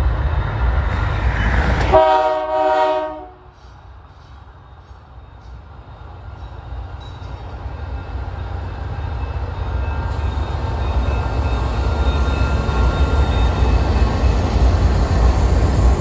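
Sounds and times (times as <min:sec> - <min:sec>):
freight train engine and wheel rumble: 0:00.0 - 0:16.0.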